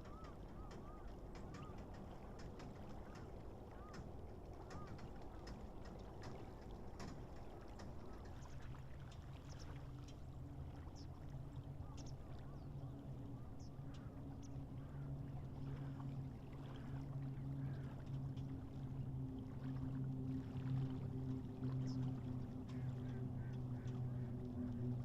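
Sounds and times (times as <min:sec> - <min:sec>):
low engine-like hum: 0:00.0 - 0:25.0.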